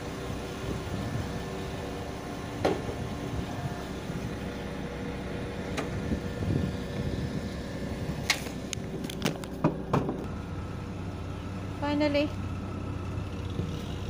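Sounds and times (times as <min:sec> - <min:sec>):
train humming and rumbling: 0:00.0 - 0:14.0.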